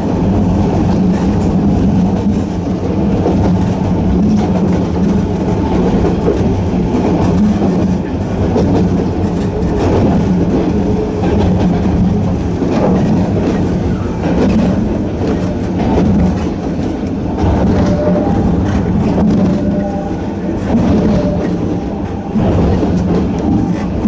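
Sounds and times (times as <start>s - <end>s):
electric train running: 0.0s - 24.0s.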